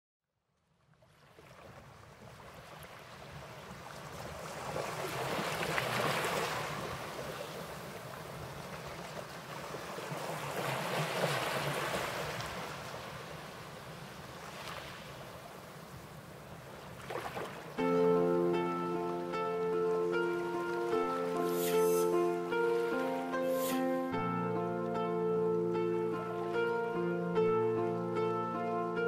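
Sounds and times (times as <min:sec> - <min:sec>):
sea waves washing in: 0:02.2 - 0:29.0.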